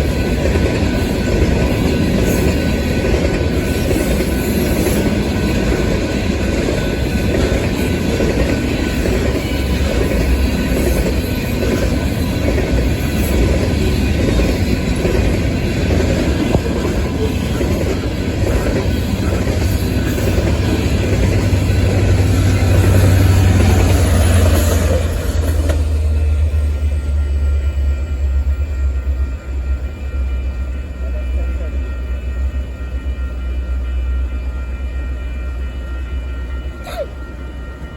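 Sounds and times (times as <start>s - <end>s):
train wheels on rails: 0.0s - 37.9s.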